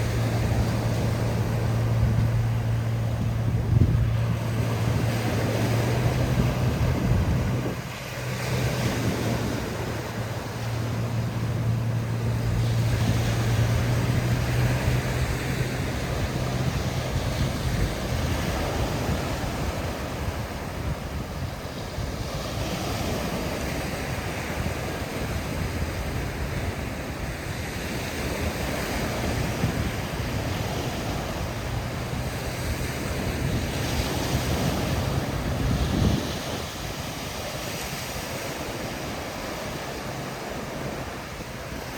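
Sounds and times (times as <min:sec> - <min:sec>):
sea waves breaking on beach: 0:00.0 - 0:41.9
wind buffeting microphone: 0:00.0 - 0:41.9.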